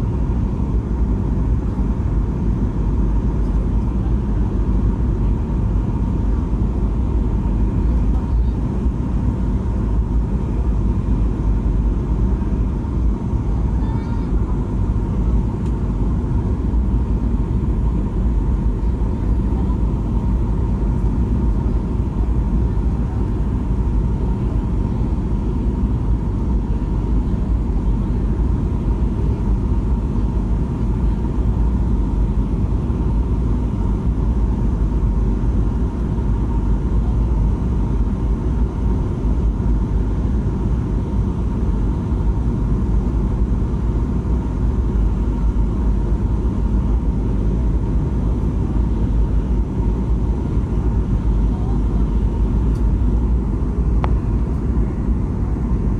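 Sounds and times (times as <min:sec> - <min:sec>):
faint steady whine: 0:00.0 - 0:55.9
jet engine roar in cabin: 0:00.0 - 0:55.9.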